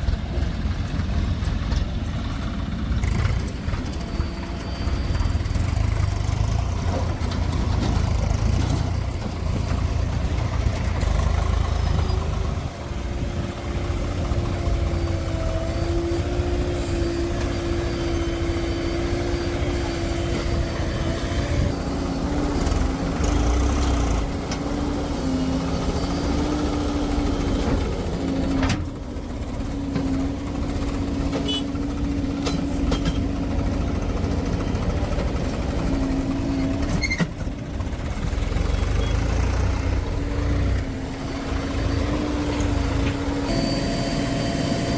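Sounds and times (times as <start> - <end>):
heavy diesel engine rumbling: 0.0 - 44.9.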